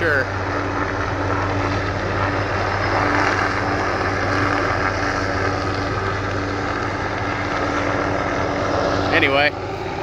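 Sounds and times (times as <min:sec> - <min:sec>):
buzz-saw blades spinning: 0:00.0 - 0:10.0
helicopter rotor and engine drone: 0:00.0 - 0:10.0.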